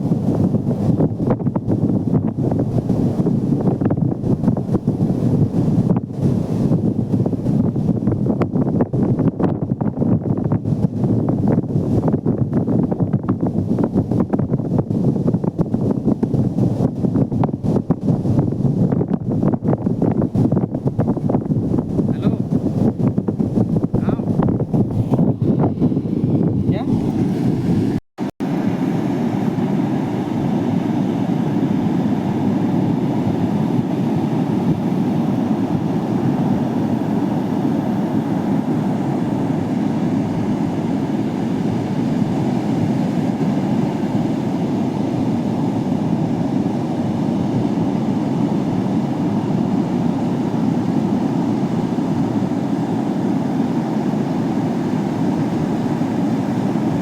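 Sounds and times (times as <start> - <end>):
muffled ocean surf roar: 0.0 - 57.0.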